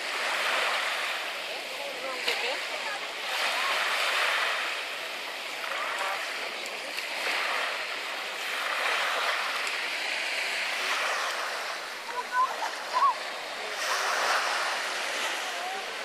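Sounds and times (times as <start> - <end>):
faint voices: 0.0 - 16.0
small waves washing ashore: 0.0 - 16.0.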